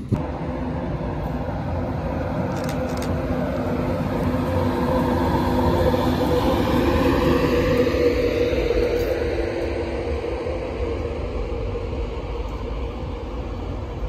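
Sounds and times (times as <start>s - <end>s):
electric locomotive humming whine: 0.0s - 14.0s
train wheels rumbling on rail: 0.0s - 14.0s.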